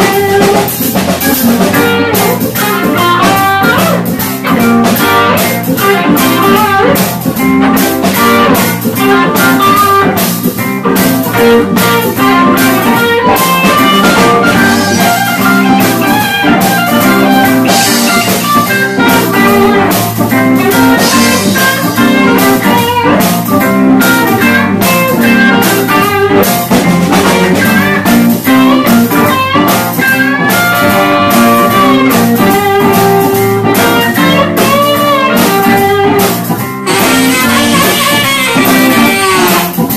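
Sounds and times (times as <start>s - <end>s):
drum kit beat: 0.0s - 39.9s
electric guitar lines: 0.0s - 39.9s.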